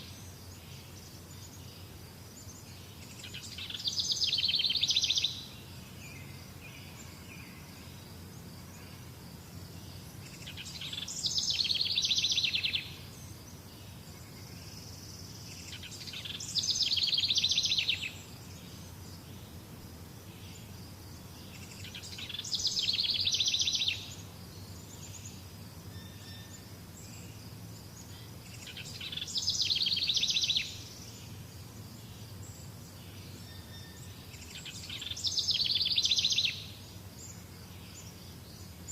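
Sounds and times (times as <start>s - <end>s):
faint natural ambience: 0.0s - 38.9s.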